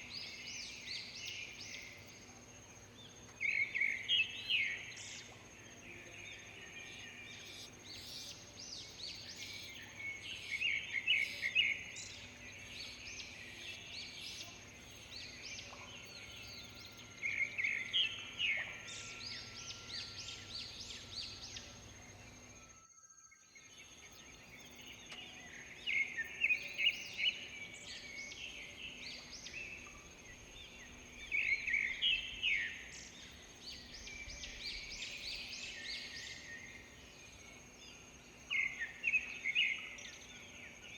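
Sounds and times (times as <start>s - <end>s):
wild birds chirping: 0.0s - 40.9s.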